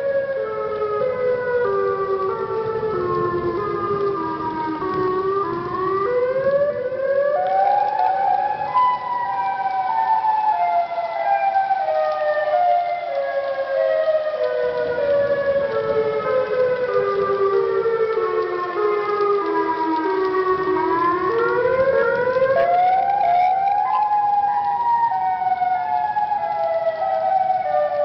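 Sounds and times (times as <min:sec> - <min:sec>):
warning siren rising and falling: 0:00.0 - 0:28.0.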